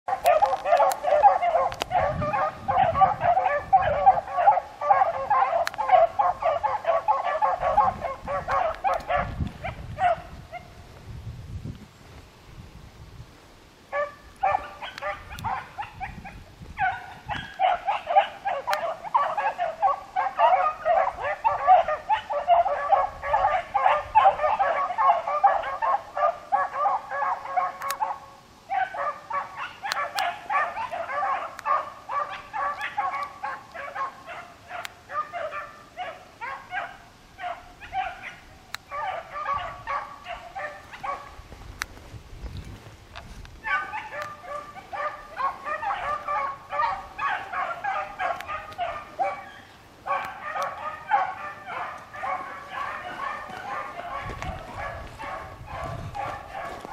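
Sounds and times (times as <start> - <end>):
hounds baying: 0.1 - 10.8, 13.9 - 41.6, 43.6 - 56.9.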